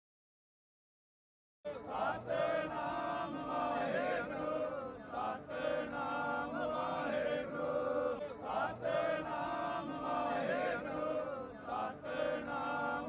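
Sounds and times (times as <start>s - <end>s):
men chanting in unison: 1.7s - 13.0s.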